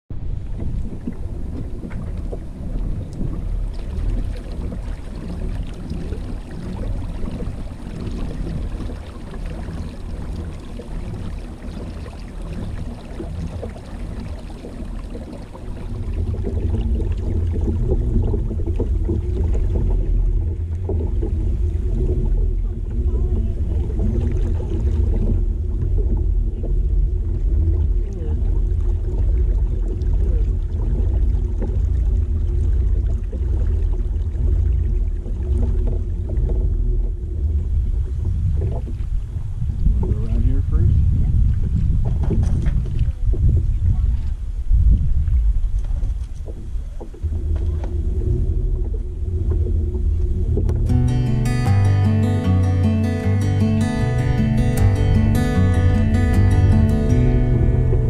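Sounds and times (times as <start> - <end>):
water moving along kayak hull: 0.1 - 51.0, 54.5 - 58.0
wind rumble on microphone: 0.1 - 51.0.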